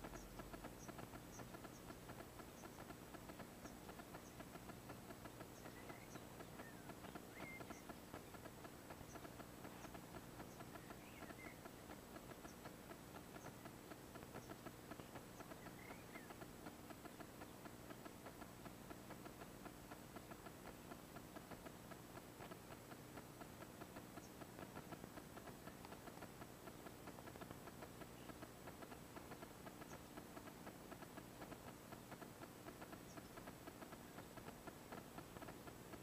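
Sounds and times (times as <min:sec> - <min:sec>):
faint crackle and hum: 0:00.0 - 0:36.0.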